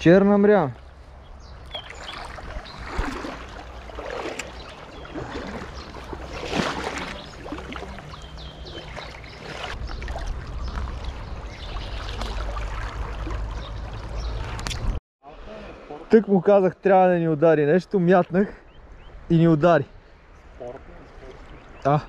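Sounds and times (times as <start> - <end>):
river water flowing and splashing: 0.5 - 16.6, 19.9 - 22.0.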